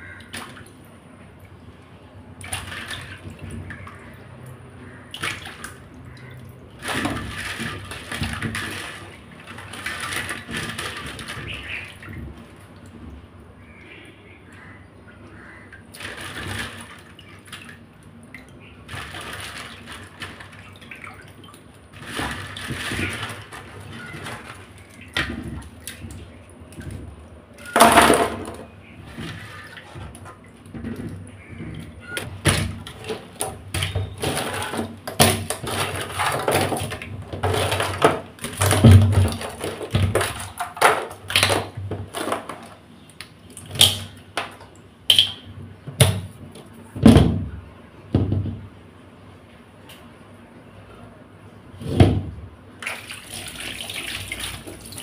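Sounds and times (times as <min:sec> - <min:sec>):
water sloshing and splashing: 0:00.0 - 0:47.5, 0:51.7 - 0:55.0.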